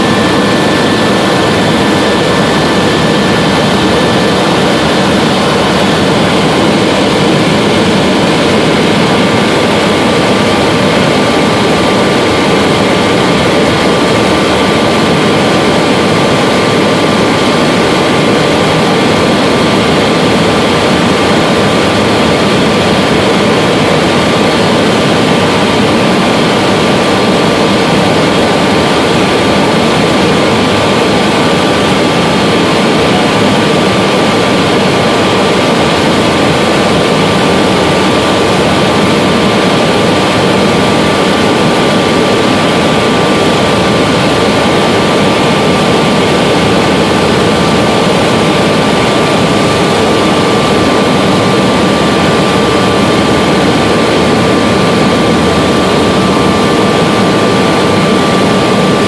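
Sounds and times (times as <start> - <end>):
helicopter engine and rotor noise: 0.0 - 59.0
thin whine: 0.0 - 59.0.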